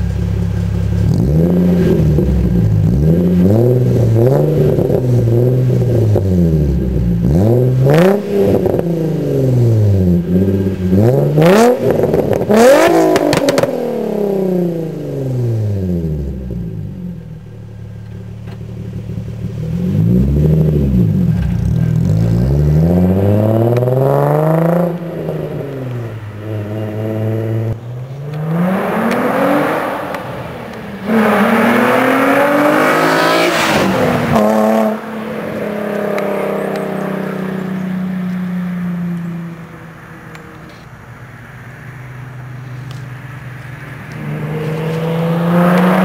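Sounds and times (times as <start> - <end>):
car engine revving and accelerating: 0.5 - 17.4, 18.4 - 40.0, 43.6 - 46.0.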